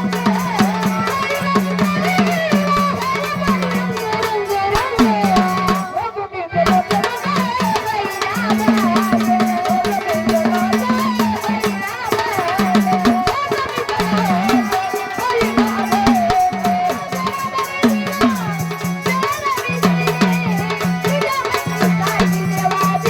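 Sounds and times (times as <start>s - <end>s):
drum and rattle percussion: 0.0s - 6.0s, 6.7s - 23.0s.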